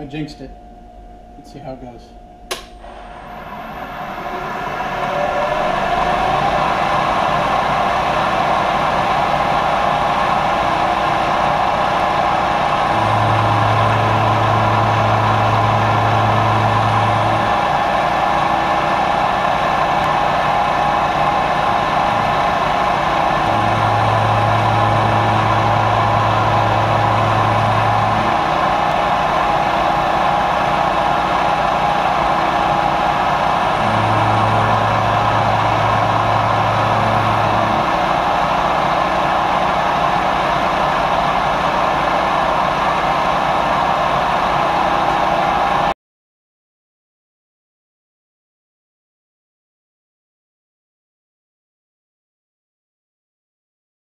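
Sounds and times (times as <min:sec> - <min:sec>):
low hum: 0:00.0 - 0:45.9
milling machine whine: 0:00.0 - 0:45.9.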